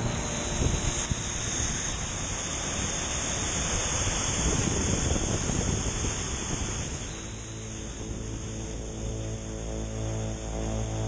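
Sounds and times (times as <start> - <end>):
low rumble on microphone: 0.0 - 11.0.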